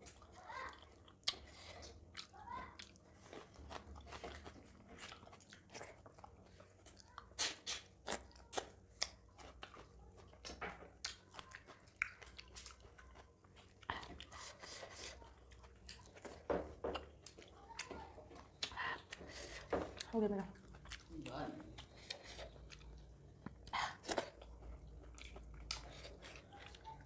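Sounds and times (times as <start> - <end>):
people chewing food: 0.0 - 27.0.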